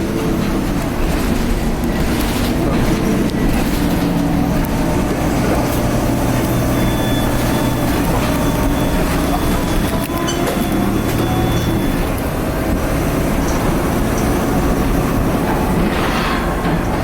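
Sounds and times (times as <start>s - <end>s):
turbo whine: 0.0s - 15.9s
diesel engine droning: 0.0s - 17.0s
rattling body and road noise: 0.0s - 17.0s.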